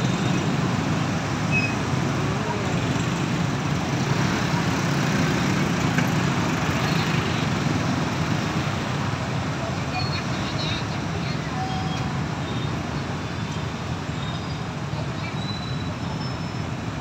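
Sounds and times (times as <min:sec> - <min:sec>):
motorbike and scooter engines idling: 0:00.0 - 0:17.0.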